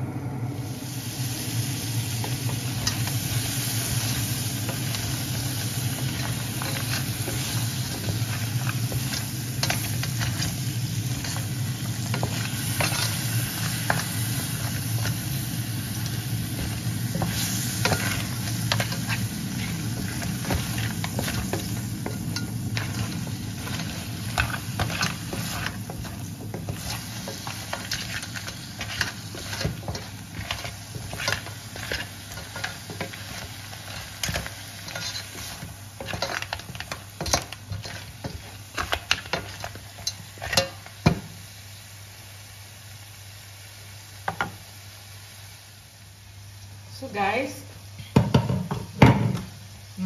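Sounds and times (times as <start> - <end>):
food sizzling in a pot: 0.0 - 50.0.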